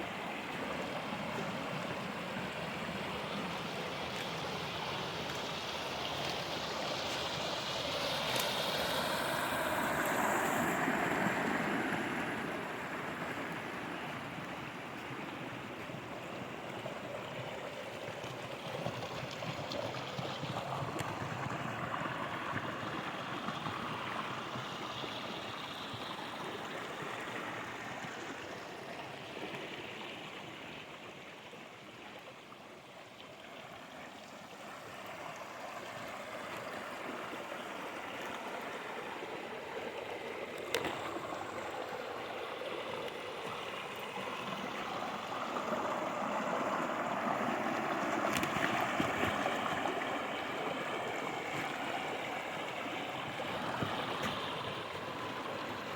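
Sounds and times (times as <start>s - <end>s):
water rushing through channel: 0.0s - 55.9s.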